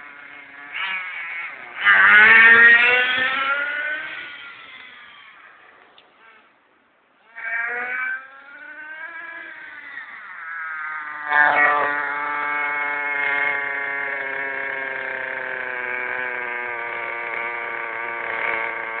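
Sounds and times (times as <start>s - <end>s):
nitro engine revving high-pitched buzz: 0.0s - 6.5s, 7.2s - 19.0s.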